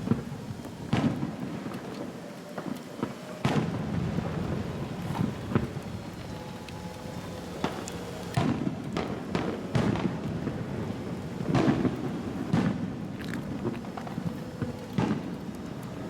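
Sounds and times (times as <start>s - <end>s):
fireworks booming with echoes: 0.0s - 16.0s.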